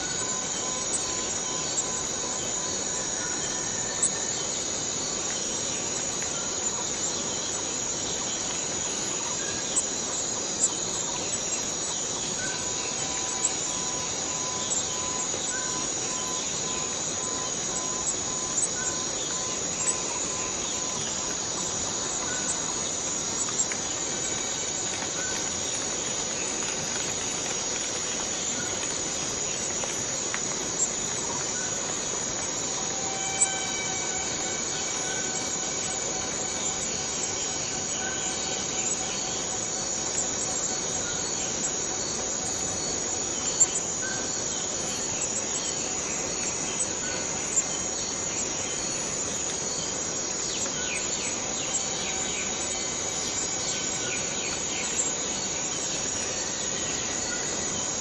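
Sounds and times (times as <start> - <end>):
cicadas droning: 0.0 - 58.0.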